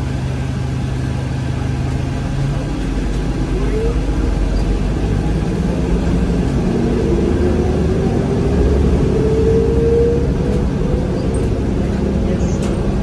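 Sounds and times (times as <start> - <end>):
bus interior engine rumble: 0.0 - 13.0.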